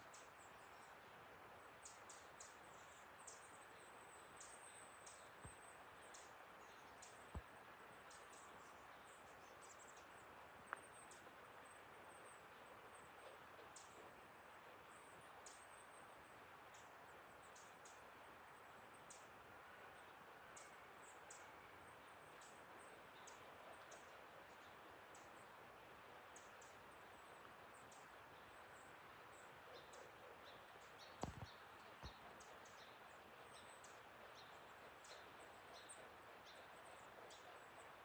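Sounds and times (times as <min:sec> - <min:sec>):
forest ambience hiss: 0:00.0 - 0:38.0
small birds chirping: 0:00.0 - 0:38.0.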